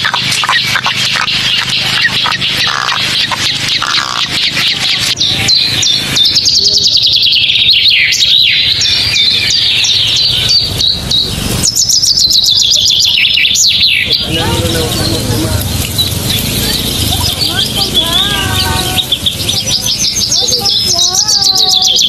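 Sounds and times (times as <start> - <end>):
rush of noise: 0.0 - 20.9
birds chirping: 0.0 - 22.0.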